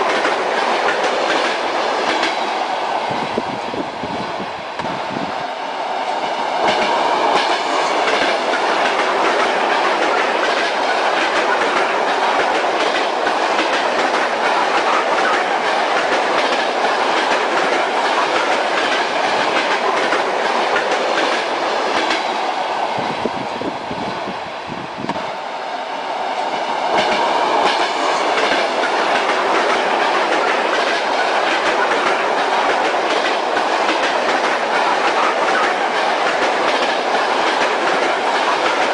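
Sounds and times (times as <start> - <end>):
train wheels clattering: 0.0 - 2.5, 6.2 - 22.4, 26.4 - 38.9
railway carriage rumble: 0.0 - 38.9.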